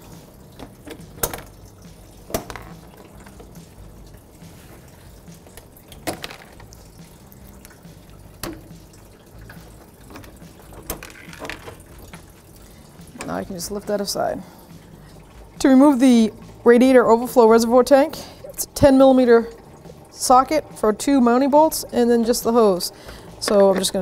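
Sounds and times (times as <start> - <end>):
coolant trickling into a pan: 0.0 - 24.0.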